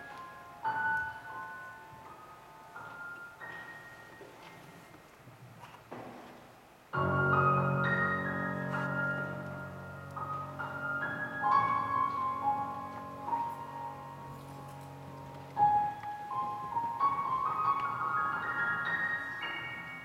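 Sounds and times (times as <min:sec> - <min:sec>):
grand piano playing: 0:00.0 - 0:04.8, 0:06.9 - 0:20.0.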